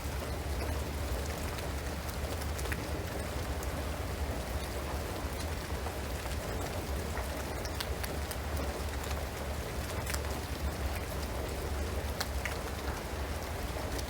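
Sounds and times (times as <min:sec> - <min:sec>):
rain on a shingled roof: 0:00.0 - 0:14.0
raindrop ticks: 0:00.1 - 0:14.0.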